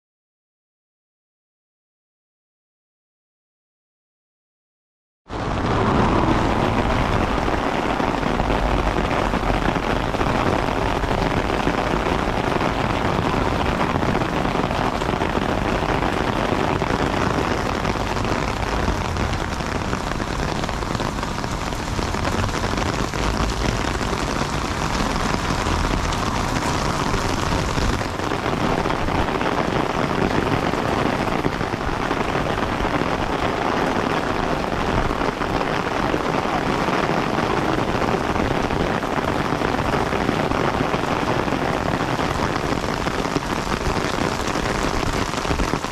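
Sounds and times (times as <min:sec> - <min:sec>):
heavy rain on street: 0:05.3 - 0:45.9.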